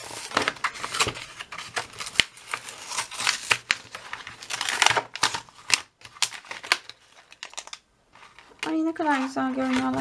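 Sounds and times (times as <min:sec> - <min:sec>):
cardboard tearing: 0:00.0 - 0:10.0
plastic blister pack crinkling: 0:00.0 - 0:10.0.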